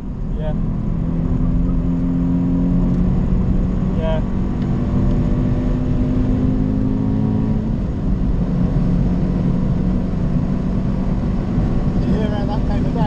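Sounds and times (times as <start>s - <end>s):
car engine running hard: 0.0s - 13.0s
road and tyre rumble: 0.0s - 13.0s.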